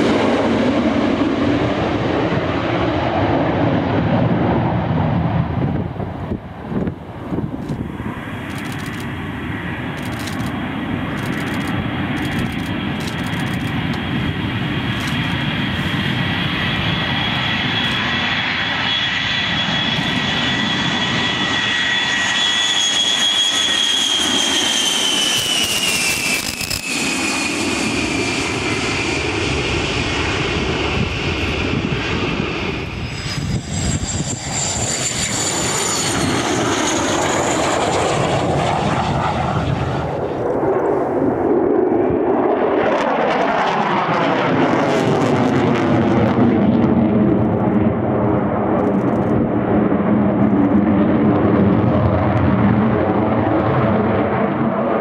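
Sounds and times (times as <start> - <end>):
military aircraft engine whine: 0.0 - 55.0.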